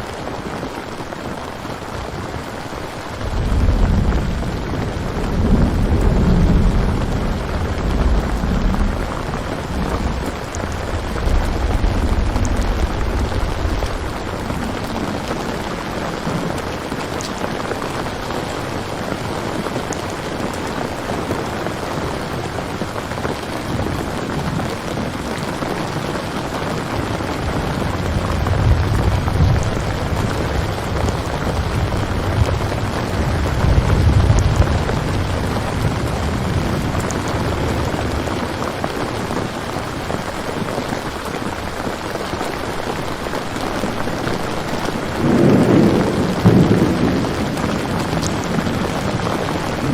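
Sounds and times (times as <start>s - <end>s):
steady rain falling: 0.0s - 49.9s
low rolls of thunder: 1.9s - 49.9s.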